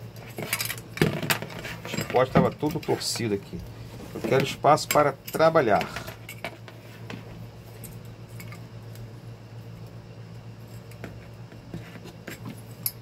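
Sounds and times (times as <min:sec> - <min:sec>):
fan parts clicking and tapping: 0:00.0 - 0:09.1, 0:10.6 - 0:13.0.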